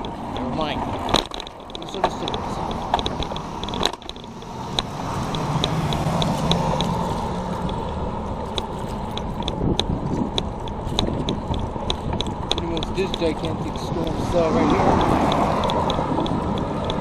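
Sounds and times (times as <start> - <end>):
bicycle drivetrain clicks: 0.0 - 17.0
wind and tyre noise: 0.0 - 17.0.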